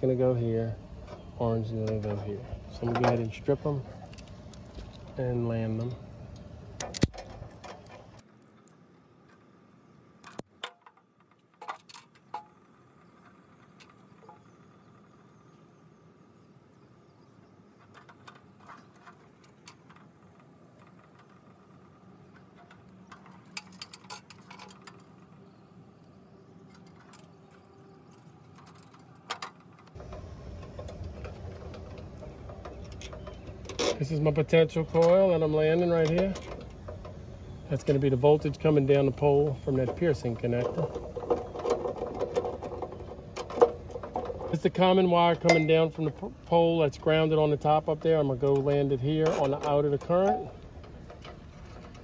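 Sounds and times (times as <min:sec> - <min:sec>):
wire strippers clicking: 0:01.8 - 0:09.4, 0:17.8 - 0:52.0.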